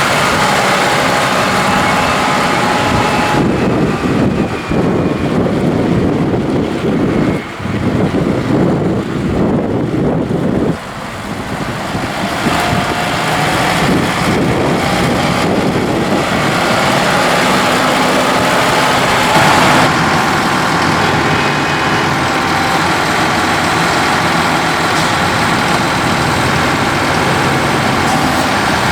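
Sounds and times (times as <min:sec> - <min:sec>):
tractor diesel engine running: 0:00.0 - 0:28.9
wind gusts on microphone: 0:00.0 - 0:28.9.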